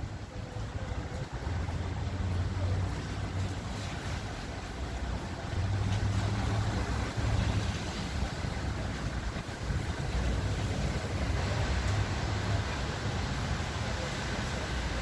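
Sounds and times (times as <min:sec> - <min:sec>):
diesel locomotive engine rumble: 0:00.0 - 0:15.0
rain noise: 0:00.0 - 0:15.0.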